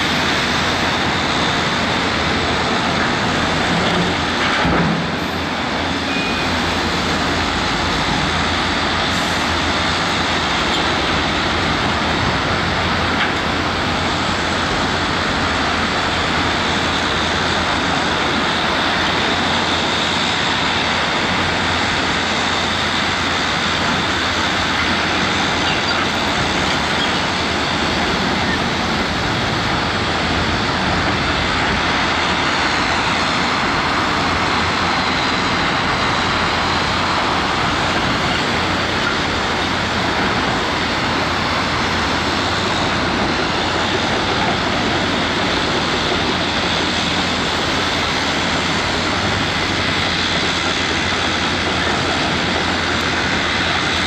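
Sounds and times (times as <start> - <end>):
heavy construction machinery running: 0.0 - 54.0.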